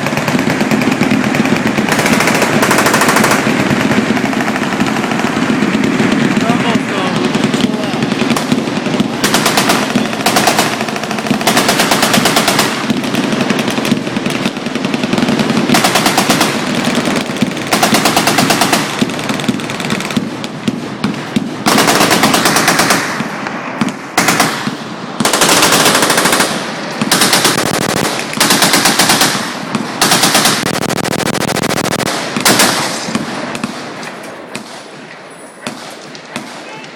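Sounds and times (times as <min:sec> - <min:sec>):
machine-gun fire: 0:00.0 - 0:35.0, 0:35.6 - 0:36.9.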